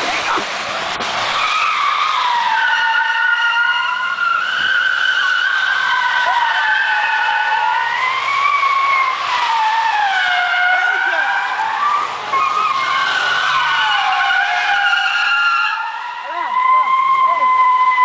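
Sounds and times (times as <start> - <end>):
car tyres squealing: 0.0 - 18.0.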